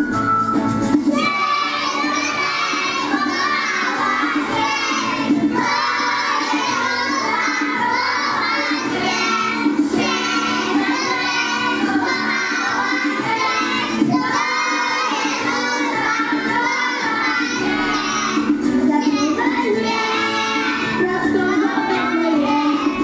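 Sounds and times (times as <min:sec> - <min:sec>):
instrumental accompaniment: 0:00.0 - 0:23.0
children singing a carol: 0:01.2 - 0:23.0.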